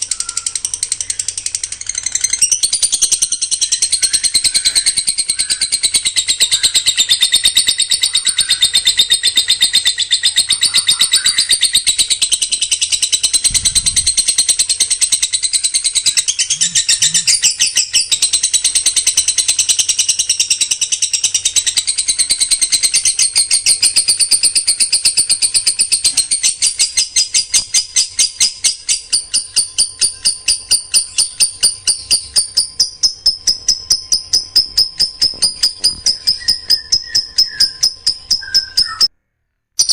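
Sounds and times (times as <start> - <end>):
songbird singing: 0.0 - 39.1.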